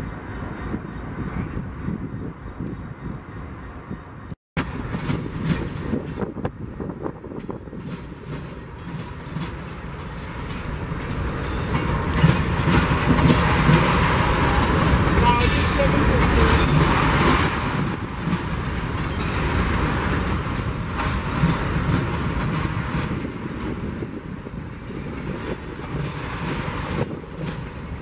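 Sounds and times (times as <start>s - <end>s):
diesel locomotive running: 0.0s - 28.0s
freight train wheels clicking: 4.6s - 28.0s.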